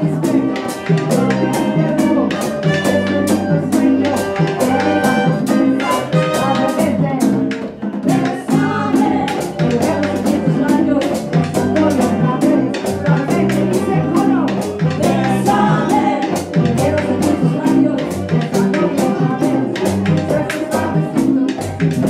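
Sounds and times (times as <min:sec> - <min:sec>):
drums and percussion: 0:00.0 - 0:22.0
keyboard: 0:00.0 - 0:22.0
voices singing: 0:00.0 - 0:22.0.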